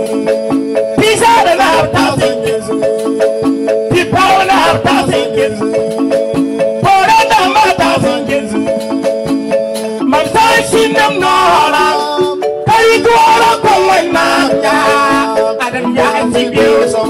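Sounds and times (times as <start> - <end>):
drums with rhythmic beat: 0.0 - 17.0
electric keyboard: 0.0 - 17.0
man singing into microphone: 0.0 - 17.0.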